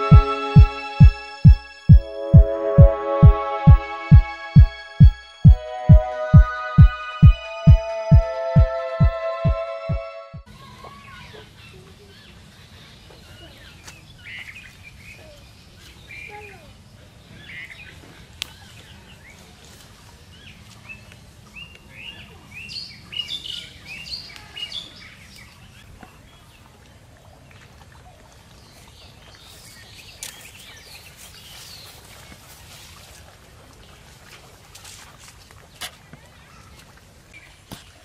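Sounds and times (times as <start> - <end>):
faint outdoor background noise: 0.0 - 38.0.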